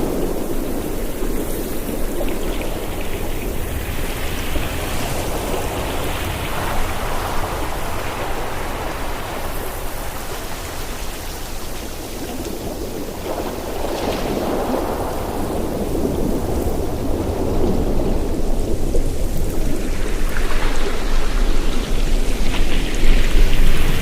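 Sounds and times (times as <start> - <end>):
ocean surf breaking on shore: 0.0 - 24.0.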